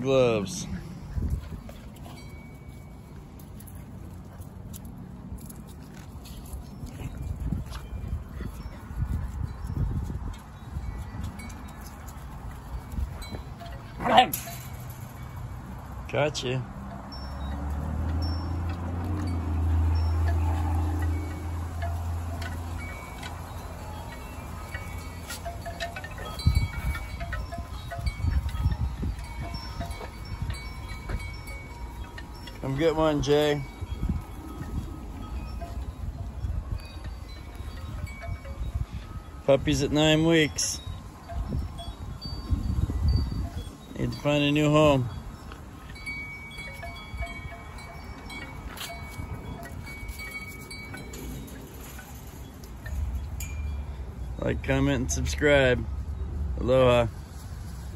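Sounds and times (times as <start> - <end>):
chimes ringing faintly: 0.0 - 4.8, 5.4 - 57.0
light tinkling tones: 0.0 - 57.9
puppies scuffling on concrete: 0.4 - 16.0, 16.8 - 39.4, 45.2 - 53.6.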